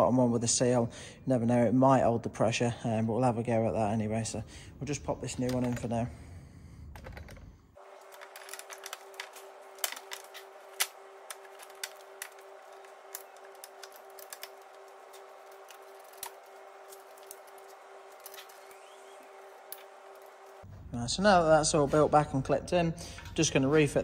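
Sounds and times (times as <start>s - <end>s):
steady hum: 3.8s - 23.9s.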